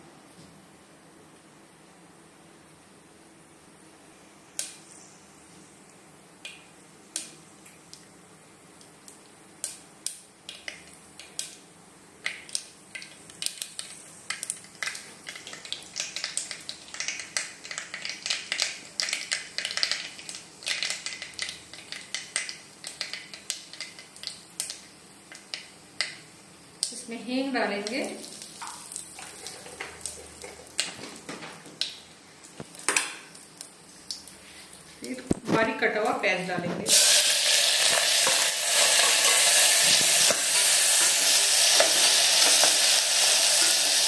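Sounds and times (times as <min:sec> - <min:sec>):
seeds crackling in hot oil: 0:04.4 - 0:36.2, 0:36.9 - 0:44.0.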